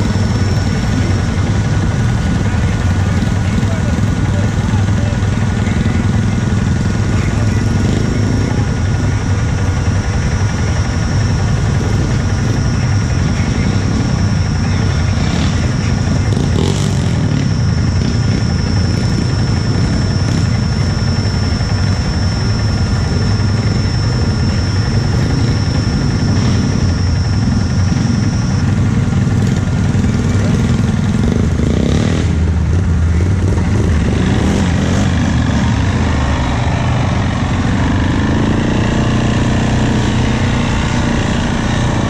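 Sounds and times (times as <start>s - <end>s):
atv engine running under load: 0.0s - 42.0s.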